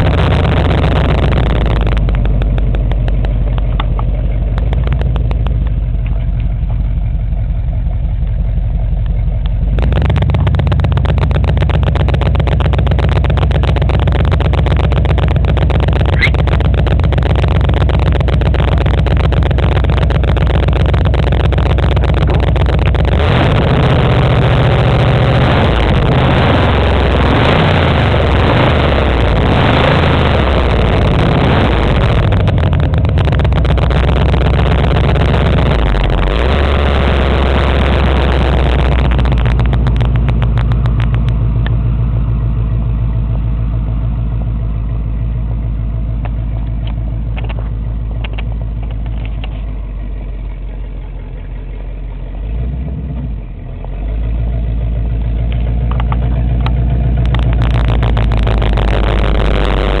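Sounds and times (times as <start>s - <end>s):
car engine exhaust rumble: 0.0s - 60.0s.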